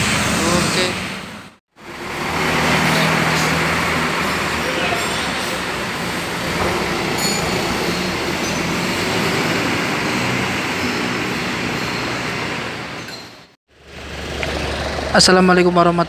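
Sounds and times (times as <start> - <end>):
diesel bus engine rumbling: 0.0 - 16.0.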